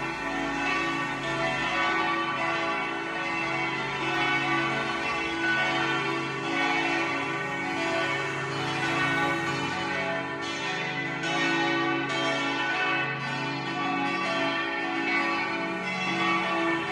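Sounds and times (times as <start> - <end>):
church bells pealing: 0.0 - 16.9.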